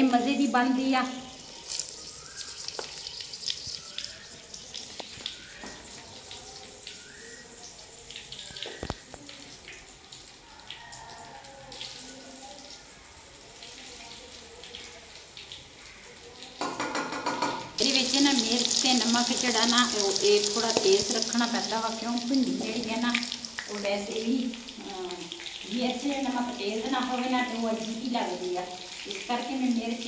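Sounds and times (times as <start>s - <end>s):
okra sizzling in hot oil: 0.0s - 30.0s.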